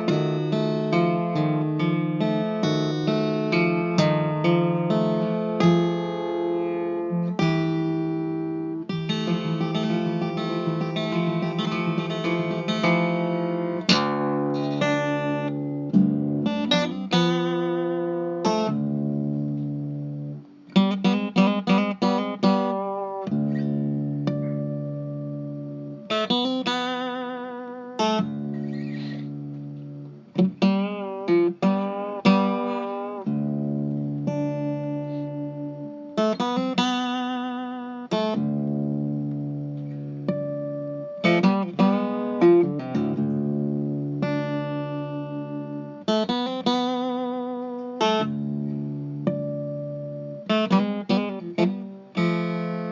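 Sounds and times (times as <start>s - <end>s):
solo guitar music: 0.0s - 52.9s.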